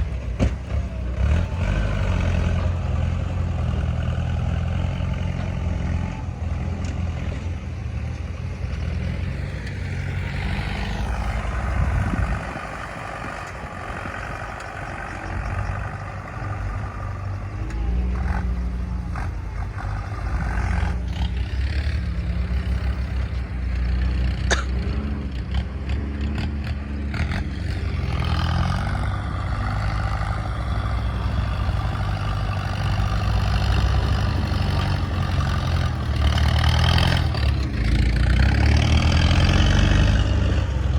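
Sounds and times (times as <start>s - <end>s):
heavy diesel engine: 0.0s - 40.9s.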